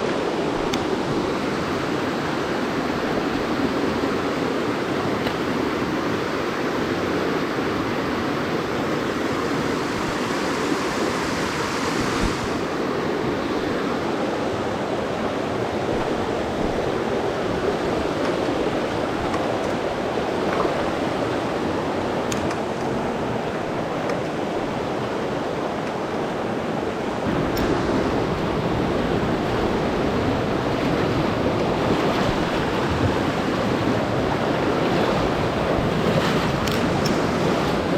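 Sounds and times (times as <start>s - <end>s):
stream water rushing: 0.0s - 37.9s.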